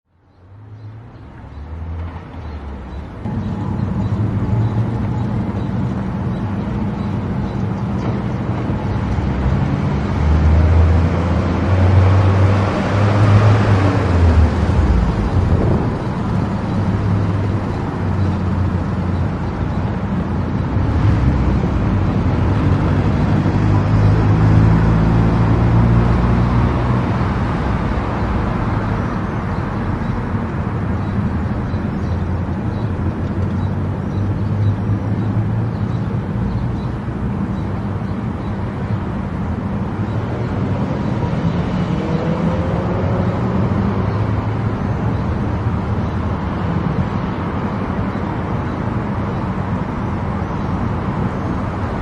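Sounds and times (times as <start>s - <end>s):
car engine and tyre road noise: 0.0s - 52.0s.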